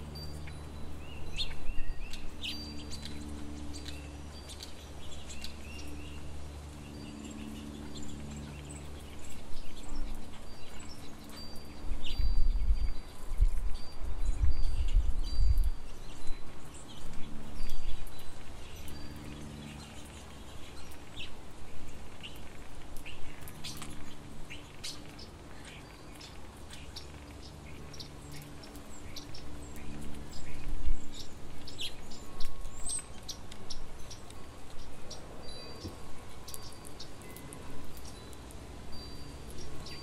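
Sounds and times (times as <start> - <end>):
small songbirds chirping: 0.0 - 40.0.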